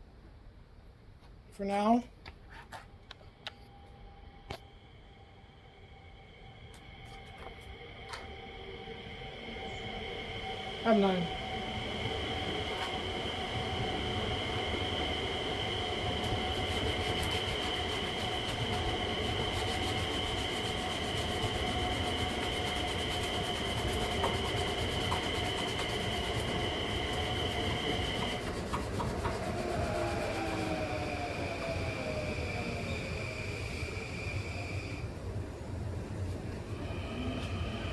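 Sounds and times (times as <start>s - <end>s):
electric fan motor whining: 5.0s - 37.9s.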